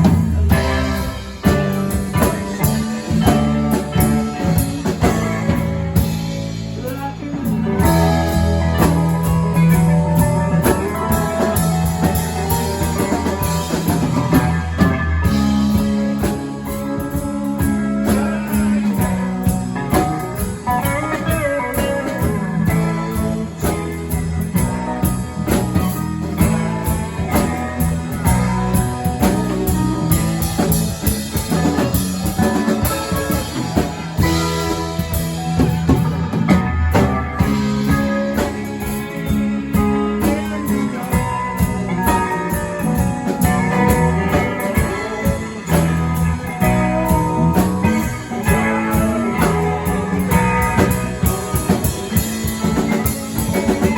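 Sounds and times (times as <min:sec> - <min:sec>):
music with steady beat: 0:00.0 - 0:53.9.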